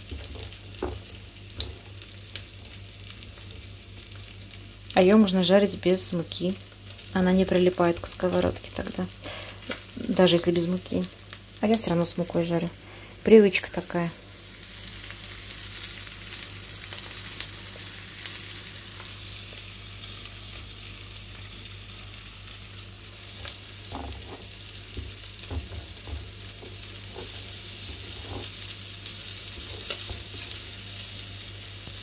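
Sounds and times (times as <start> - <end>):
fish frying in hot oil: 0.0 - 32.0.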